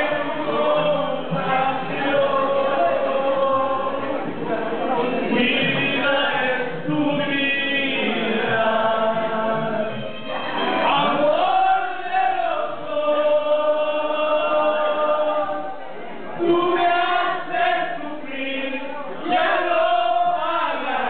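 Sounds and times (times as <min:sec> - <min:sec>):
two men singing through speaker: 0:00.0 - 0:21.0.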